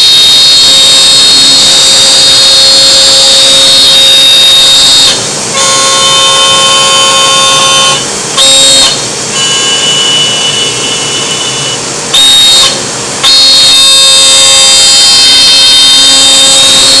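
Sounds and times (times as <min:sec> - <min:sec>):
router spindle high-pitched whine: 0:00.0 - 0:17.0.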